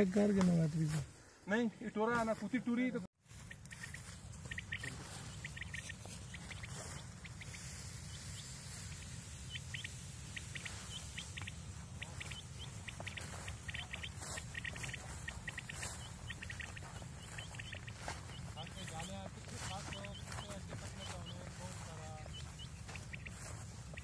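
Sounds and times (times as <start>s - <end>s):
birds chirping: 1.1s - 24.0s.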